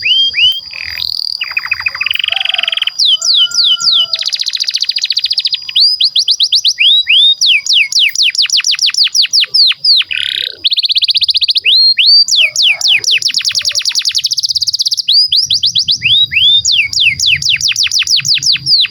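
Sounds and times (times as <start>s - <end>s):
canary singing trills: 0.0s - 18.9s.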